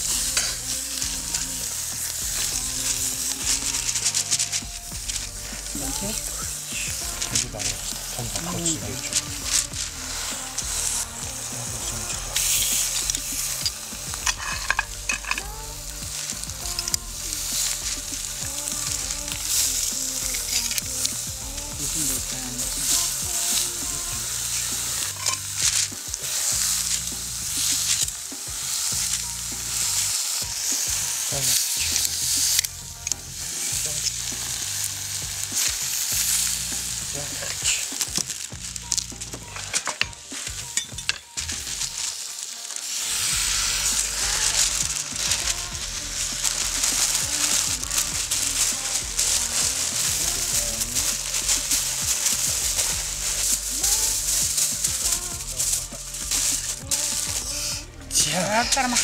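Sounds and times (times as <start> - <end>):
sizzling hiss with crackles: 0.0 - 59.0.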